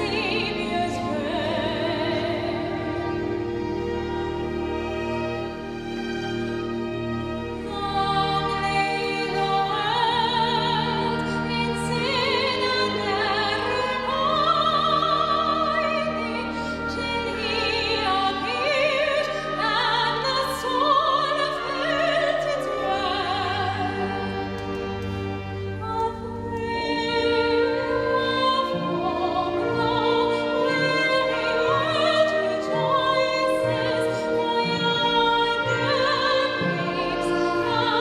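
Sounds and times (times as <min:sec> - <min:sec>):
sustained accompaniment: 0:00.0 - 0:38.0.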